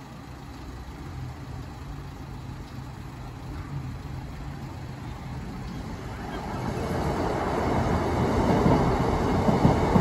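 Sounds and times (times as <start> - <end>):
diesel train engine rumble: 0.0 - 10.0.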